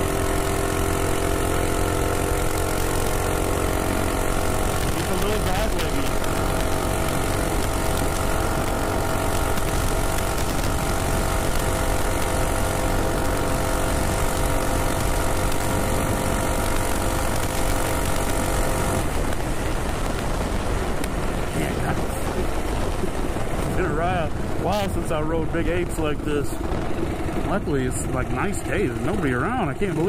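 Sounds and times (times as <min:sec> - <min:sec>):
minibike engine at high throttle: 0:00.0 - 0:30.0
wind rush: 0:03.8 - 0:28.9.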